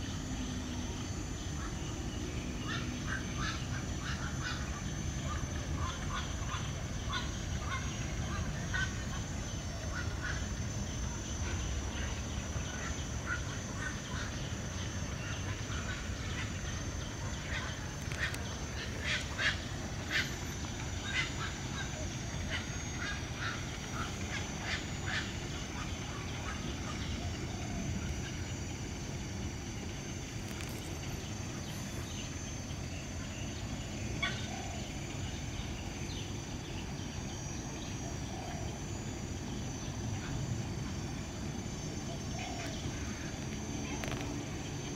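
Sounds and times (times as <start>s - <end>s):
birds calling in sharp notes: 0.0s - 44.9s.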